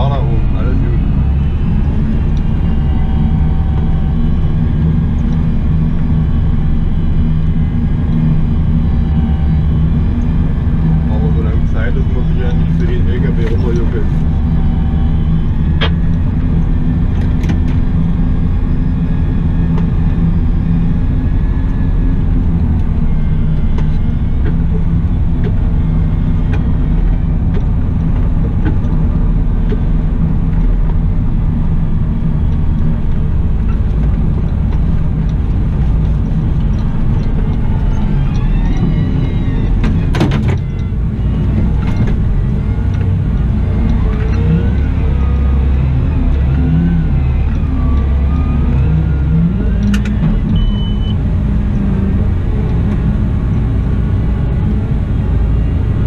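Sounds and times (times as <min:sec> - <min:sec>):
rising and falling whine: 0:00.0 - 0:56.0
wheel loader diesel engine: 0:00.0 - 0:56.0.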